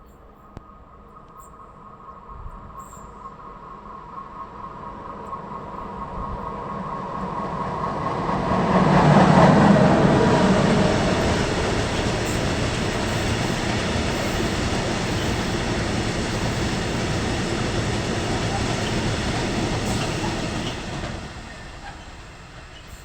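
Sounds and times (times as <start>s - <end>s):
train wheels rolling on track: 2.8s - 23.0s.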